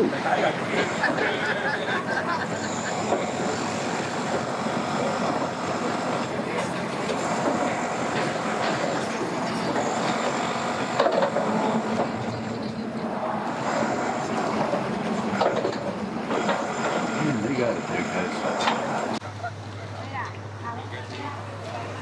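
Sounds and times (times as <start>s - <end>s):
mechanical rumble with rattling: 0.0s - 19.2s.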